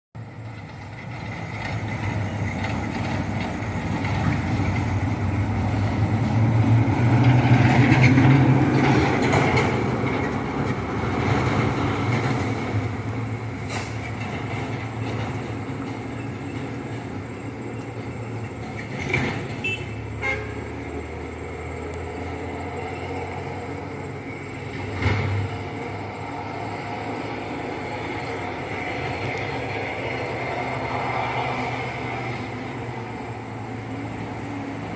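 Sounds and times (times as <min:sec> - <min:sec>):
diesel truck engine rumble: 0:00.2 - 0:34.9.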